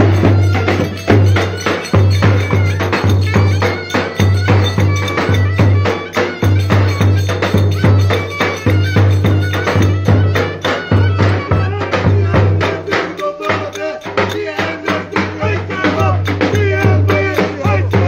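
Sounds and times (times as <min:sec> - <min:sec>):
folk dance music: 0:00.0 - 0:18.0
heavy bass drum beat: 0:00.0 - 0:18.0
quick percussion strikes: 0:00.0 - 0:18.0.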